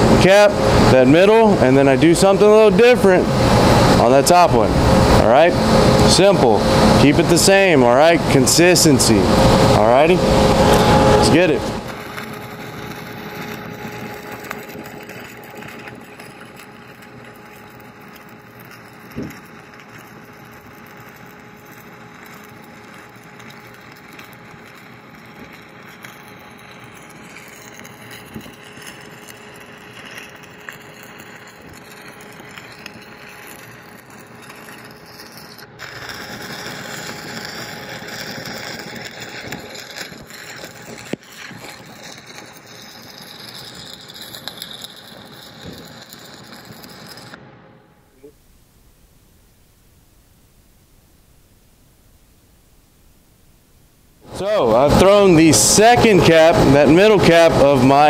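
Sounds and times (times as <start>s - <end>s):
faint steady hum: 0.0s - 58.0s
welding arc crackling and hissing: 0.0s - 58.0s.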